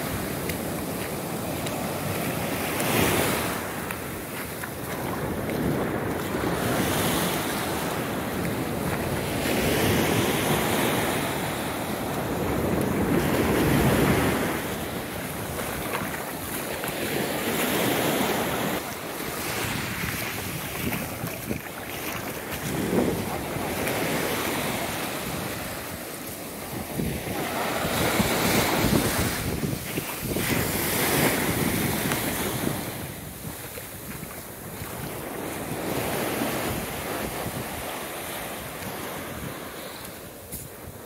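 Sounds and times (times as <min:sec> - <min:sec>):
small waves breaking on sand: 0:00.0 - 0:41.0
wind on microphone: 0:00.0 - 0:41.0.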